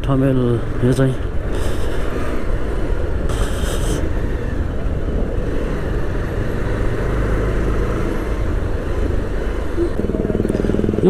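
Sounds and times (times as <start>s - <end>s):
motorcycle engine rumble: 0.0s - 11.0s
road noise: 0.0s - 11.0s.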